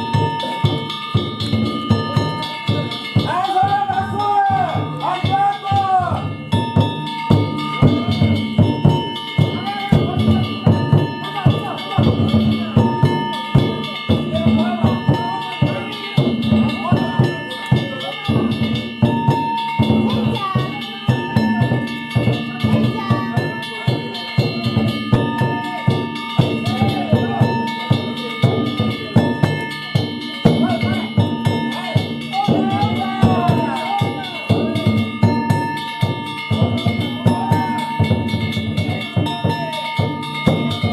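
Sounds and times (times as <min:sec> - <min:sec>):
hand-held gongs ringing: 0:00.0 - 0:40.9
taiko drum beating: 0:00.0 - 0:40.9.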